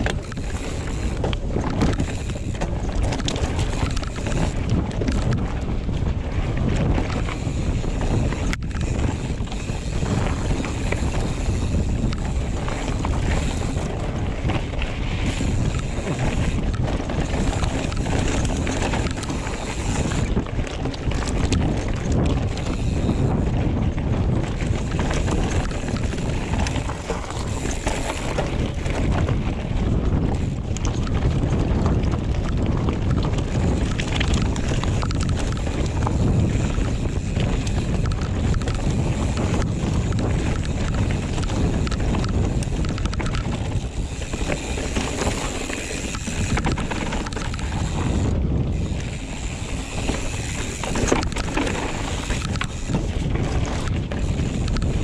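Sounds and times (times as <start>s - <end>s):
bike knocks and rattles: 0.0s - 55.0s
bike tyres rushing on dirt: 0.0s - 55.0s
wind buffeting microphone: 0.0s - 55.0s.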